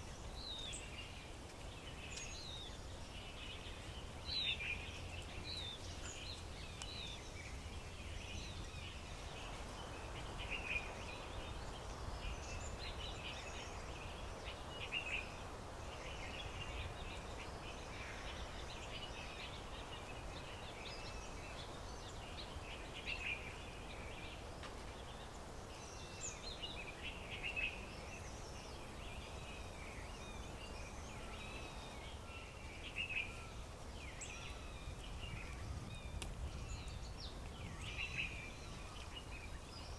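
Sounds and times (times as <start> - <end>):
low rumble of outdoor noise: 0.0 - 39.9.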